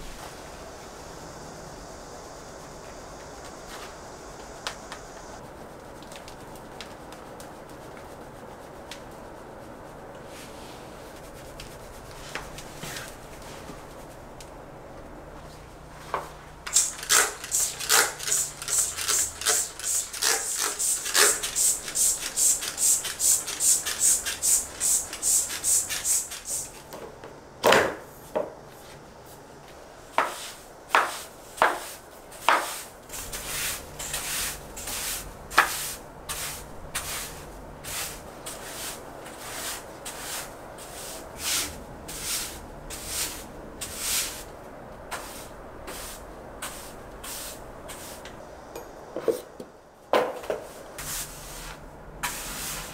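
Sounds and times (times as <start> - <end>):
broom sweeping tiled floor: 0.0 - 14.7, 15.3 - 27.2, 28.0 - 48.5, 50.2 - 52.9.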